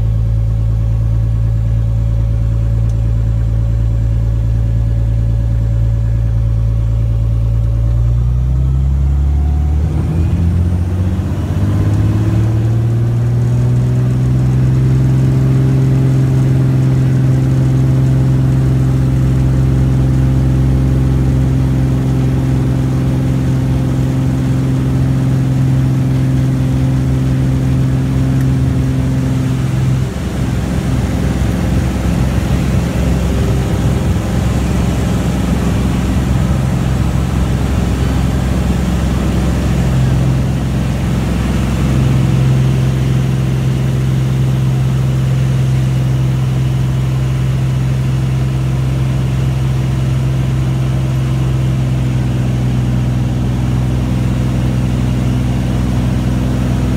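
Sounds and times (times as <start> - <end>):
propeller airplane engine drone: 0.0 - 56.9.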